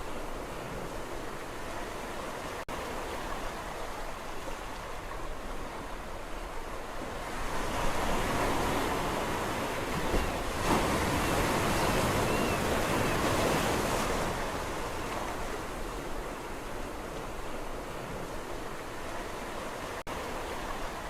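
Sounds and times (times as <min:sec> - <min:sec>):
sea waves breaking on shore: 0:00.0 - 0:21.0.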